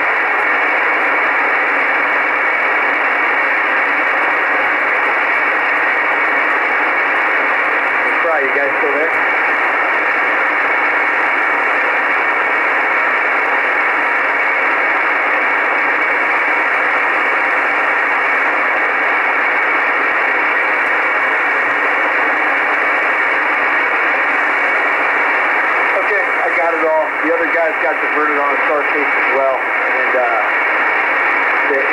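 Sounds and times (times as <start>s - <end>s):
shortwave static hiss: 0.0s - 31.9s.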